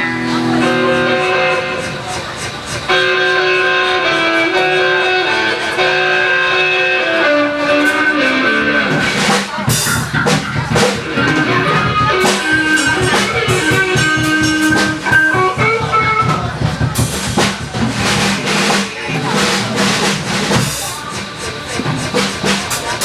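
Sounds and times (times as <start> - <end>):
drums with cymbal crashes: 0.0 - 23.0
melodic guitar line: 0.0 - 23.0.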